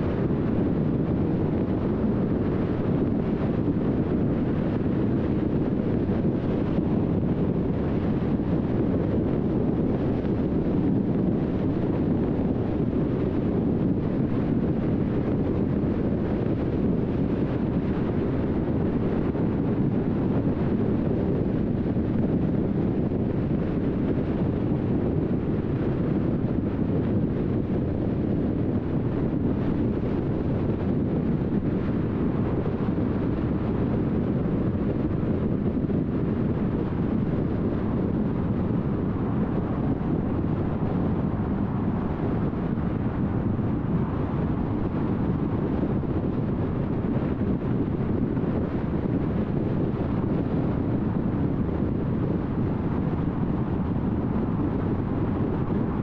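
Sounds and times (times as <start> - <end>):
tyre and wind noise: 0.0 - 56.0.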